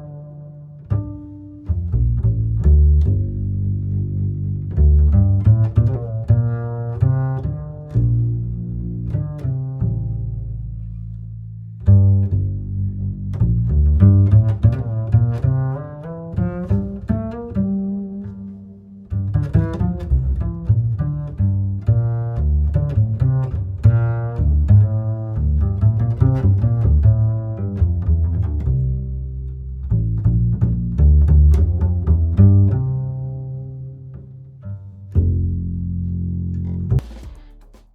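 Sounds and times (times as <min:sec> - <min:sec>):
string music with double bass: 0:00.0 - 0:37.9.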